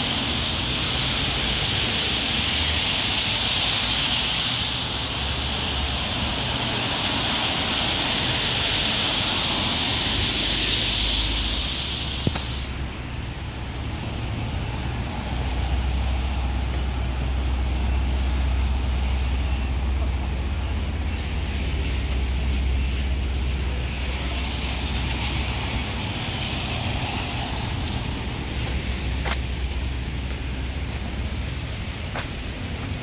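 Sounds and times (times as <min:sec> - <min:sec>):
road traffic rumble: 0:00.0 - 0:33.0
tyre hiss on wet road: 0:00.0 - 0:33.0.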